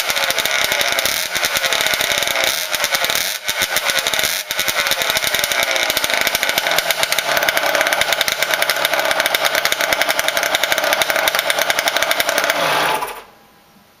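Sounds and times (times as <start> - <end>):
two-stroke motorcycle engine revving: 0.0 - 13.3.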